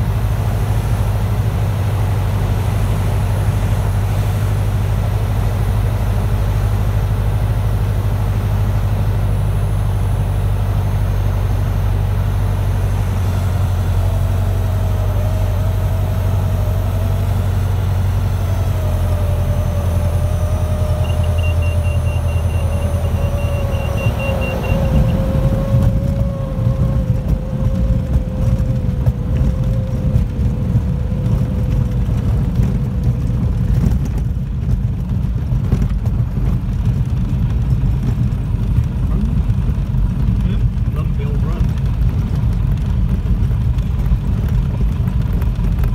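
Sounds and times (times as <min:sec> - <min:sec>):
aircraft rolling on grass: 0:00.0 - 0:45.9
light aircraft engine drone: 0:00.0 - 0:45.9.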